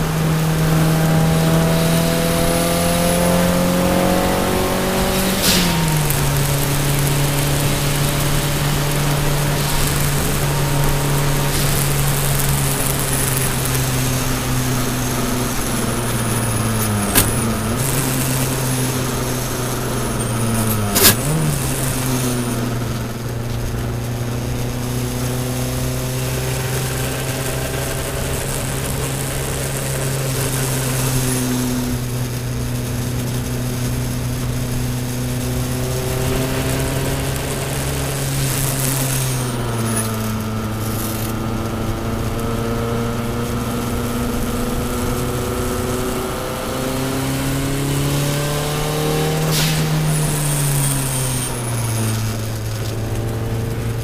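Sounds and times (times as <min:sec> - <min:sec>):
car engine running under load: 0:00.0 - 0:54.0
tyre and road noise hiss: 0:00.0 - 0:54.0.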